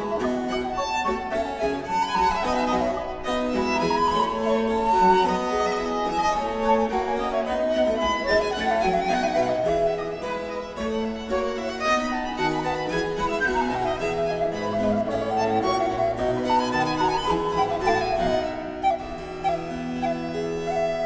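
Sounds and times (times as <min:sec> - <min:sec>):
cello: 0:00.0 - 0:21.0
violin: 0:00.0 - 0:21.0.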